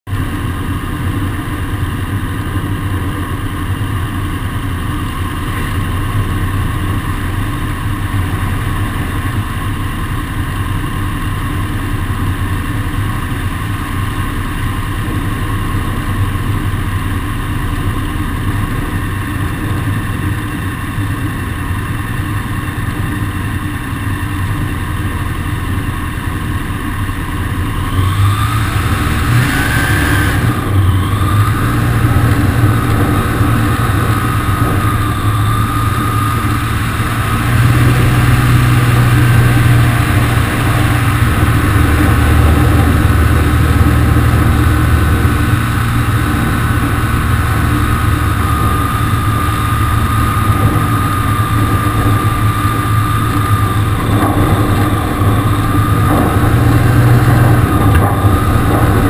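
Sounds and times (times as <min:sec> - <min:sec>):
aircraft piston engine idling: 0:00.1 - 0:29.2, 0:30.3 - 0:59.0.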